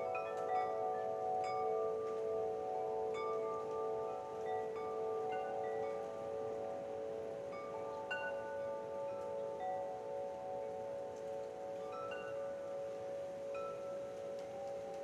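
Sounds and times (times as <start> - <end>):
faint hiss: 0.0 - 15.0
wind chimes ringing: 0.0 - 15.0.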